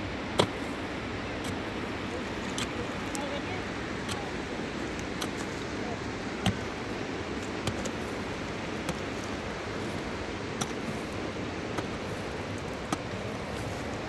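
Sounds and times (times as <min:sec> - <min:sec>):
fast-flowing river rushing: 0:00.0 - 0:14.0.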